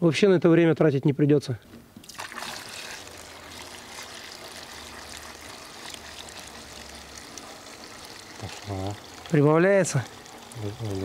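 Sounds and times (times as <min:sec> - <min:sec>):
petrol pouring through a funnel: 0:02.0 - 0:11.0.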